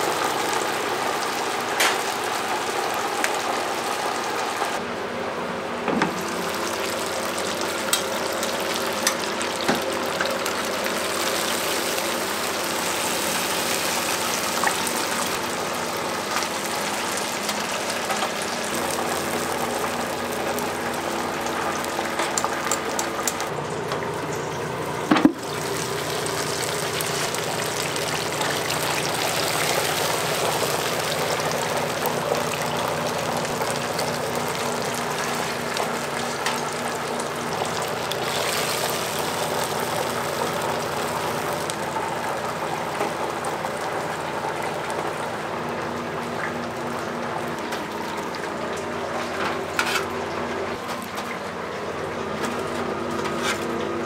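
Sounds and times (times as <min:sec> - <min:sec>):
chickens sizzling in hot oil: 0:00.0 - 0:04.8, 0:05.9 - 0:54.0
faint machine hum: 0:00.0 - 0:54.0.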